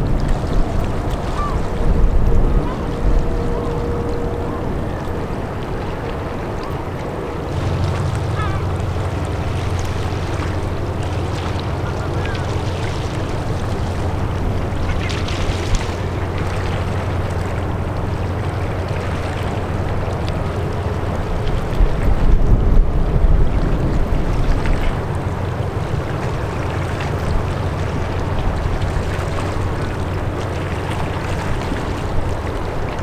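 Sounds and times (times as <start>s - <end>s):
background noise wash: 0.0s - 33.0s
ship engines droning: 0.0s - 33.0s
wind buffeting microphone: 0.0s - 33.0s.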